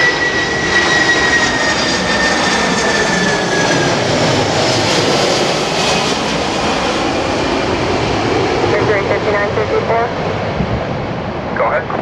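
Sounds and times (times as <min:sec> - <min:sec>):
jet engines passing with whine: 0:00.0 - 0:12.0.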